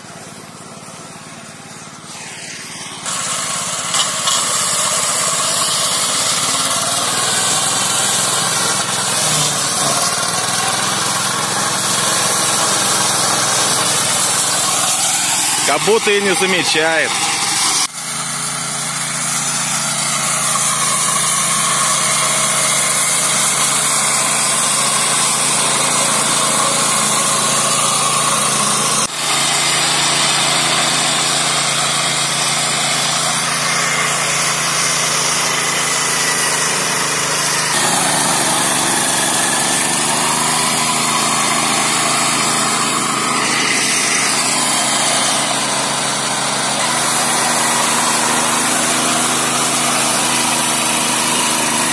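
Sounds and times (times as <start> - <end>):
rotary mower cutting grass: 0.0 - 51.9
small petrol engine running: 0.0 - 51.9.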